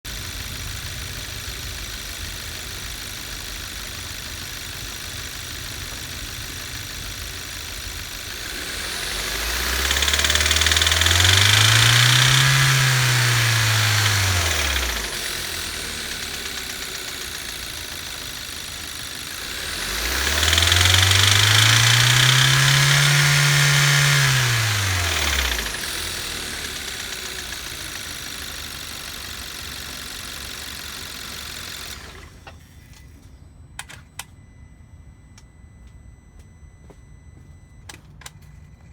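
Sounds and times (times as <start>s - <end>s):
car engine idling and revving: 0.0s - 33.1s, 33.8s - 38.9s
high-pitched engine noise: 0.0s - 38.9s.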